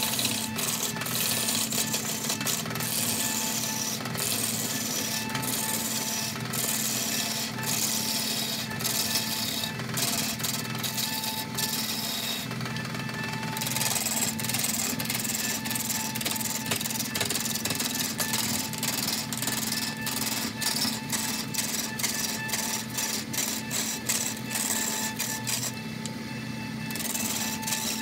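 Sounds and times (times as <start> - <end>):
lathe tool scraping wood: 0.0 - 26.2, 26.9 - 28.0
lathe motor hum: 0.0 - 28.0.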